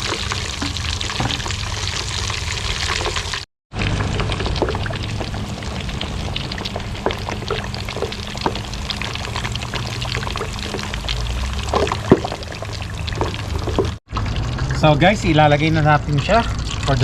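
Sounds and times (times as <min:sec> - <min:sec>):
meat sizzling in hot oil: 0:00.0 - 0:15.6.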